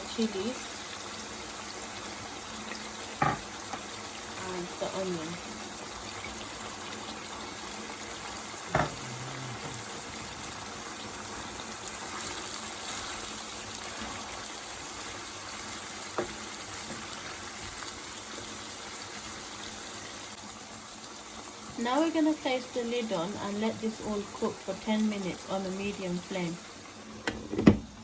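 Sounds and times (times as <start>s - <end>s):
food sizzling and bubbling in pan: 0.0s - 28.0s.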